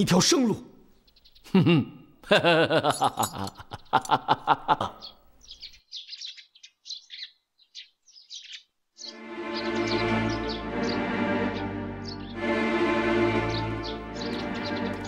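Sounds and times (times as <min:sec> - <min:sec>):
small birds chirping: 0:00.4 - 0:02.2, 0:03.1 - 0:12.6, 0:13.3 - 0:15.0.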